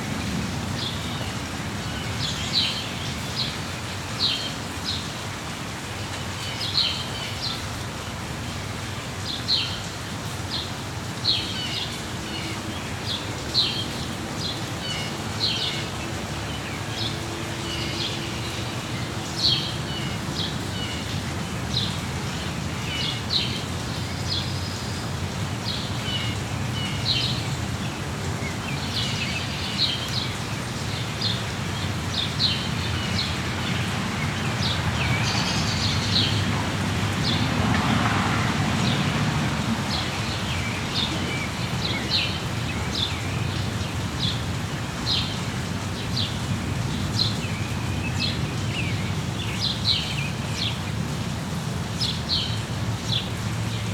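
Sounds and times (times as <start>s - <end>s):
rain falling: 0.0s - 53.9s
songbirds chirping: 0.2s - 53.9s.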